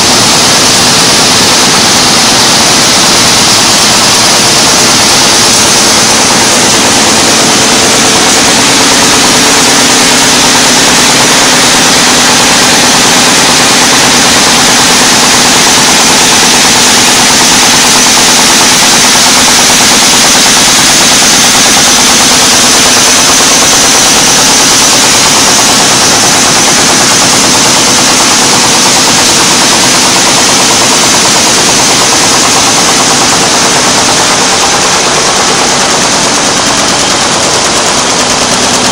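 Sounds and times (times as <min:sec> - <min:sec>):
rapid mechanical clatter of machine: 0:00.0 - 0:38.9.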